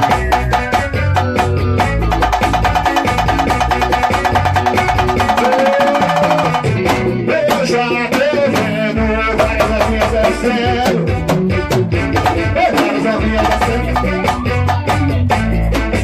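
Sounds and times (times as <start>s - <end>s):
fast band music with percussion: 0.0s - 16.0s.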